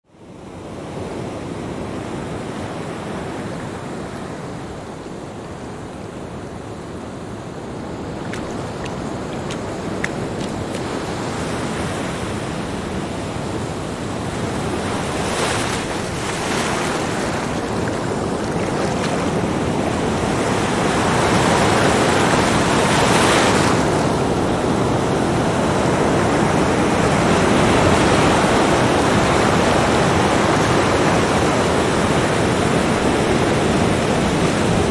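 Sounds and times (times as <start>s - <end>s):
waves breaking on a beach: 0.2s - 34.9s.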